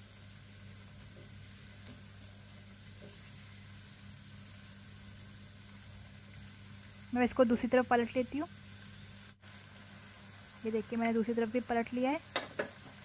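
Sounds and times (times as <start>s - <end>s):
frying sizzle: 0.0s - 13.0s.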